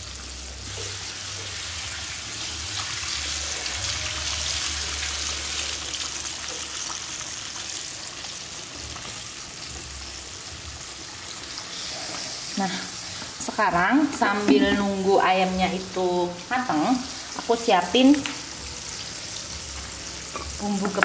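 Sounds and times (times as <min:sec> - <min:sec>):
chicken deep-frying in oil: 0:00.0 - 0:21.0.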